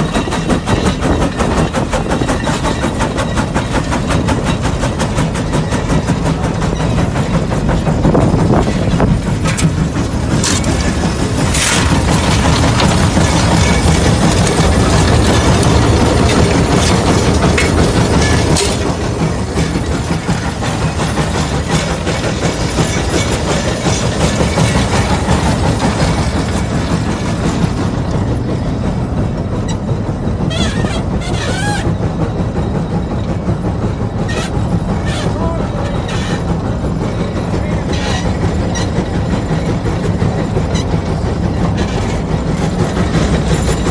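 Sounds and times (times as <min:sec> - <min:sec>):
mechanical clatter: 0:00.0 - 0:43.9
steam engine exhaust beat: 0:00.0 - 0:43.9.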